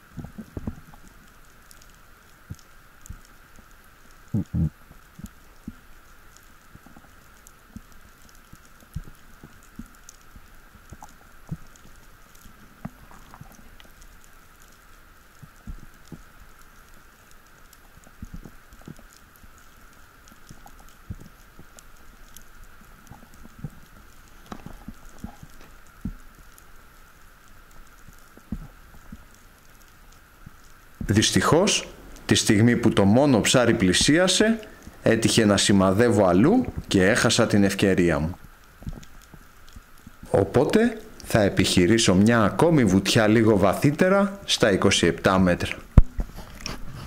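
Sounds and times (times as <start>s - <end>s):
faint steady hiss: 0.0s - 47.0s
underwater clicks and crackles: 0.0s - 47.0s.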